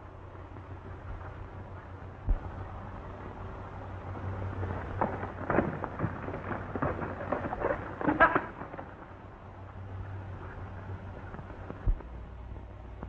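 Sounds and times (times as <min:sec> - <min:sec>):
film soundtrack hum and hiss: 0:00.0 - 0:13.0
horse hooves thudding on dirt: 0:00.4 - 0:13.0.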